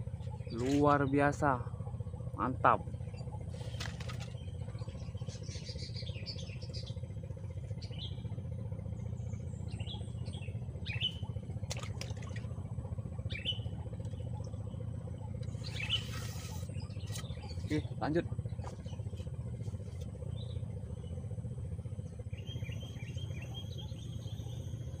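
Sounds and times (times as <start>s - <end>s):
birds chirping: 0.0s - 25.0s
low steady rumble: 0.0s - 25.0s.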